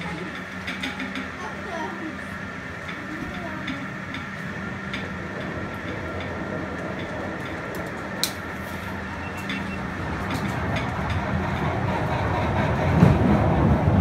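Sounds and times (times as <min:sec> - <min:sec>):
funicular car rumbling on rails: 0:00.0 - 0:14.0.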